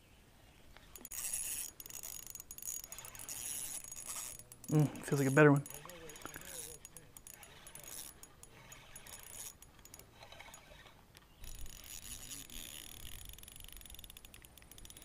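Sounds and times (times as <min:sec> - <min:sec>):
fishing reel ticking and rattling: 0:01.0 - 0:15.0.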